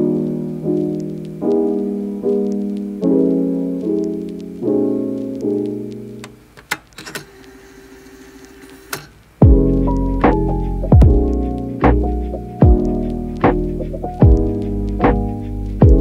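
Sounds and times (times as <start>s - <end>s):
soft piano chords: 0.0s - 6.6s, 9.4s - 16.0s.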